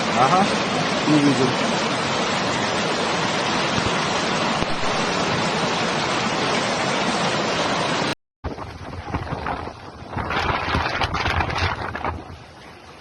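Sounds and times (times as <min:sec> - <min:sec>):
rushing floodwater: 0:00.0 - 0:13.0
torrential rain: 0:00.0 - 0:13.0.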